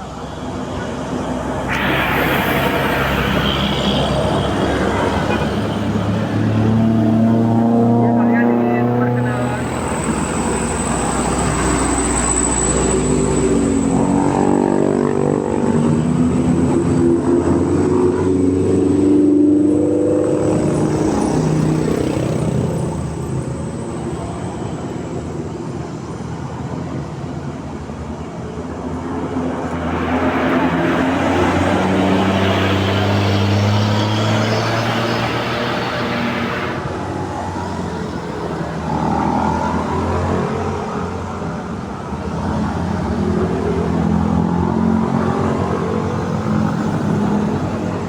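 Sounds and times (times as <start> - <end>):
bus engines passing: 0.0 - 48.0.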